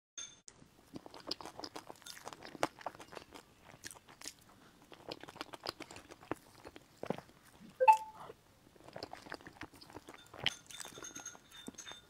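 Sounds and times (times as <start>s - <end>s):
chewing crunchy cake: 0.5s - 12.0s.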